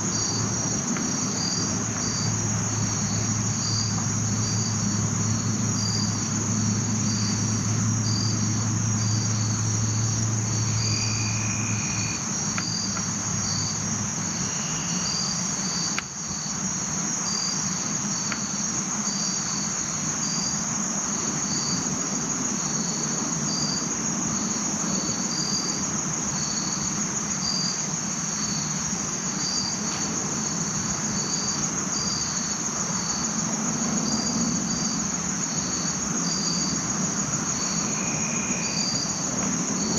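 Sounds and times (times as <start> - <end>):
insect pulsed chirp: 0.0 - 39.9
insects droning: 0.0 - 39.9.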